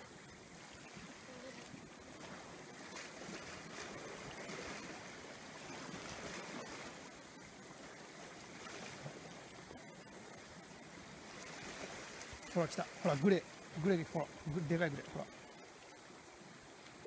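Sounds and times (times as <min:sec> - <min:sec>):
sea waves washing against breakwater: 0:00.0 - 0:15.5.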